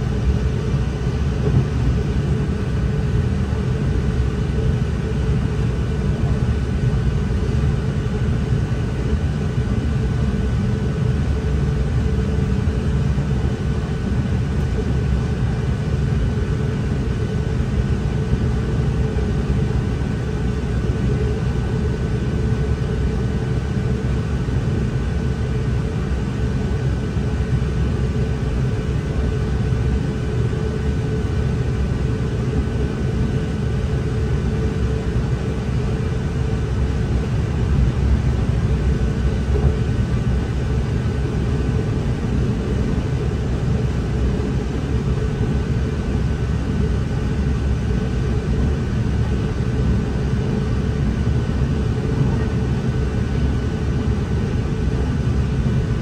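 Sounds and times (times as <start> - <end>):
faint steady whine: 0.0 - 56.0
train engine and wheels rumbling: 0.0 - 56.0.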